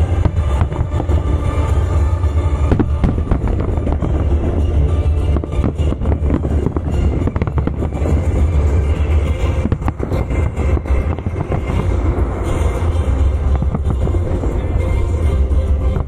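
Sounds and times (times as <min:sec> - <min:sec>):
fireworks booming and cracking: 0:00.0 - 0:16.0.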